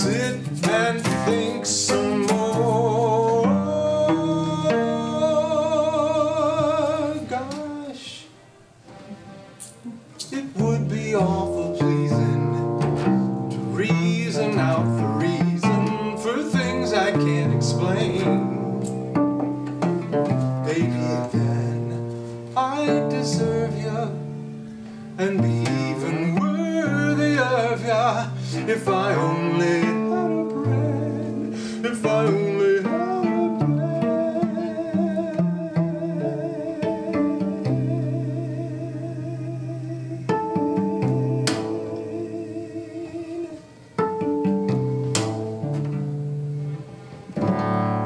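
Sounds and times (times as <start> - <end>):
solo cello playing: 0.0 - 7.9, 8.9 - 48.0.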